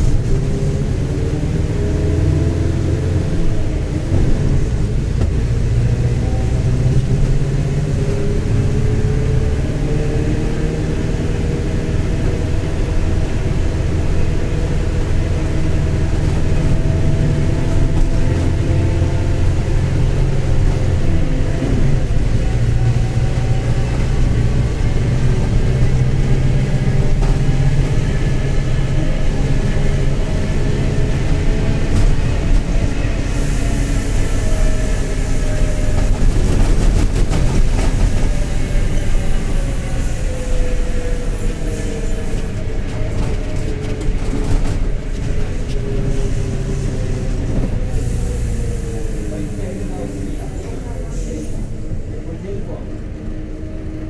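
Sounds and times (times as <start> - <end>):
bus diesel engine rumbling: 0.0 - 54.0.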